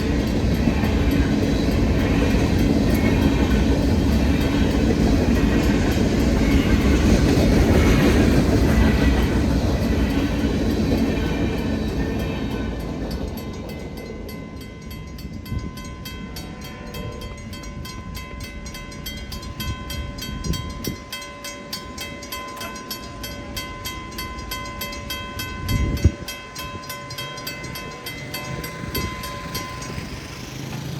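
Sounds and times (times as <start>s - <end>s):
crossing warning bell ringing: 0.0s - 30.9s
heavy train clunks: 0.0s - 30.9s
train wheels rumbling on rails: 0.0s - 30.9s.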